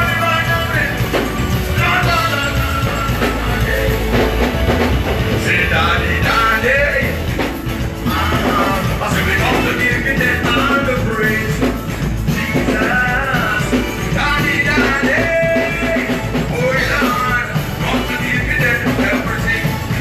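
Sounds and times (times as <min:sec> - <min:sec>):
bending melodic lead: 0:00.0 - 0:20.0
live gospel band playing: 0:00.0 - 0:20.0.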